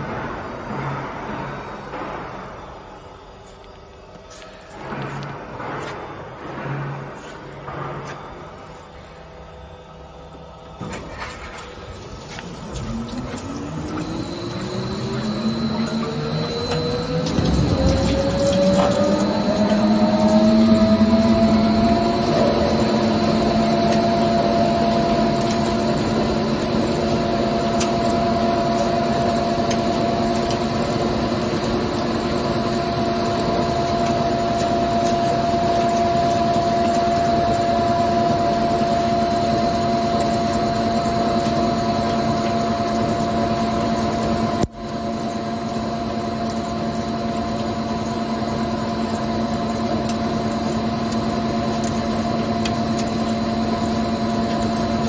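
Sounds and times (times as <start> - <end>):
lathe running with hum and whine: 7.1 - 55.0.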